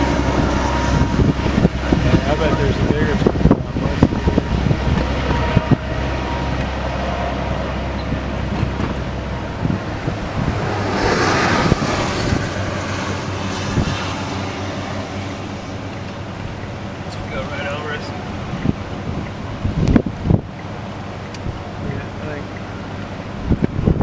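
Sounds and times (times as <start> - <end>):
low vehicle rumble: 0.0 - 24.0
wind buffeting microphone: 0.0 - 24.0.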